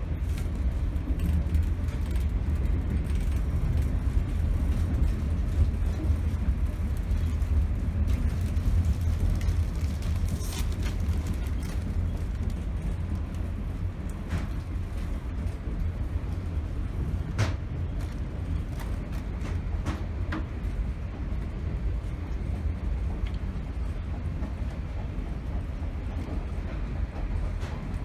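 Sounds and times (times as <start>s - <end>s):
train car rumbling in motion: 0.0s - 28.0s.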